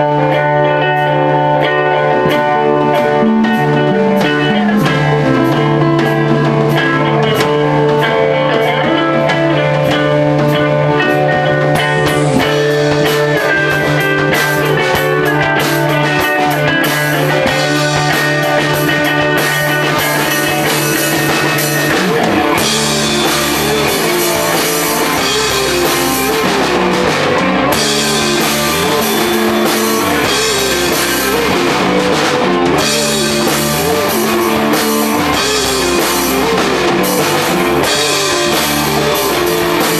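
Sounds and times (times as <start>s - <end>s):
bass guitar: 0.0s - 39.9s
drums and cymbals: 0.0s - 39.9s
electric guitar lines: 0.0s - 39.9s.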